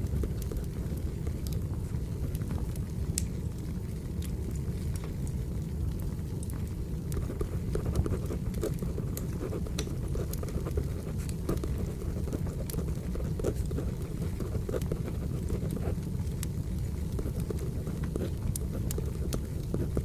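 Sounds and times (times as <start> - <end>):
fire crackles and pops: 0.0 - 20.0
low rumble of wood fire: 0.0 - 20.0.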